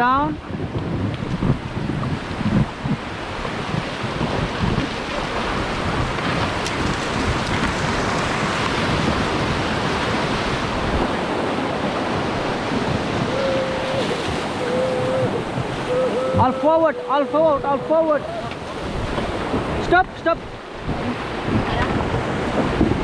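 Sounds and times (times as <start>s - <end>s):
wind buffeting microphone: 0.0s - 23.0s
whitewater rapids rushing: 2.7s - 23.0s.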